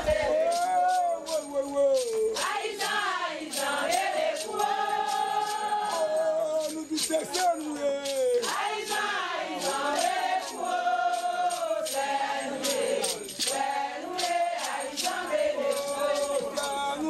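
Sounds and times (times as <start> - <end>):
group of voices singing: 0.0 - 1.1, 2.2 - 7.3, 8.1 - 17.0
shaken rattle: 0.0 - 17.0.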